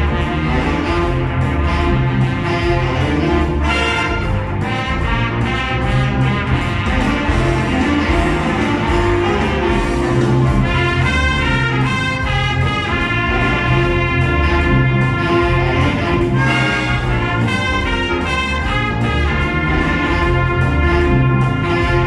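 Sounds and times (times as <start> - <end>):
bass line: 0.0 - 22.0
steady beat: 0.0 - 22.0
sustained melody: 0.0 - 22.0.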